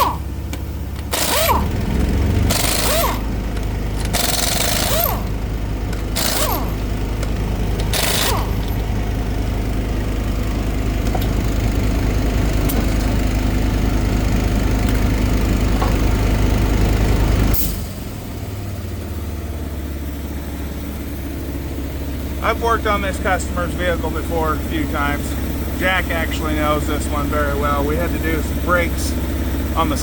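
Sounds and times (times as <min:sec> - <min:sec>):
engine running with low throb: 0:00.0 - 0:30.0.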